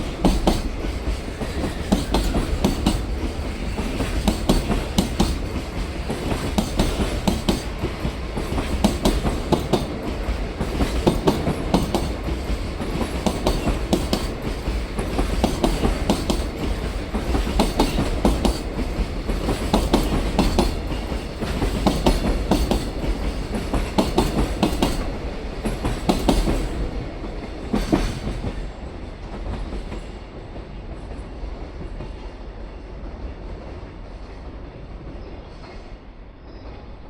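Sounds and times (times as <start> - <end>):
train wheels clicking over rail joints: 0.0 - 32.2.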